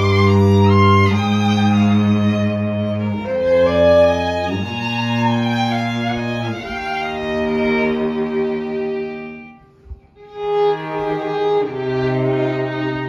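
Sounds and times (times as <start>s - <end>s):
string trio sustained notes: 0.0s - 13.0s.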